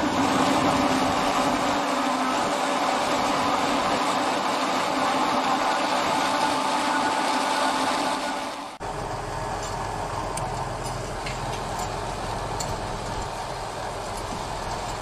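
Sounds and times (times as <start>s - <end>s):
grinding machine noise: 0.0s - 15.0s
tractor engine running under load: 0.0s - 15.0s.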